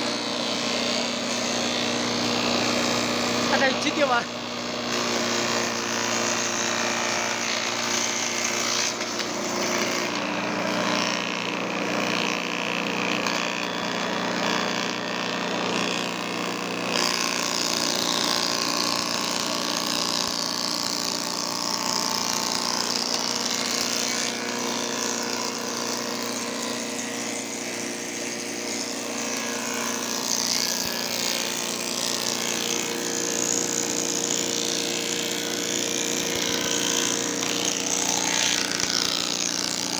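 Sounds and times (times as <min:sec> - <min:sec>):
woodworking machine cutting wood: 0:00.0 - 0:39.9.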